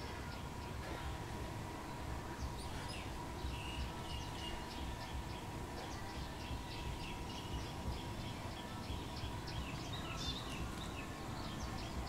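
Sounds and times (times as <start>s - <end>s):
steady low rumble: 0.0s - 12.0s
wild birds chirping: 0.0s - 12.0s.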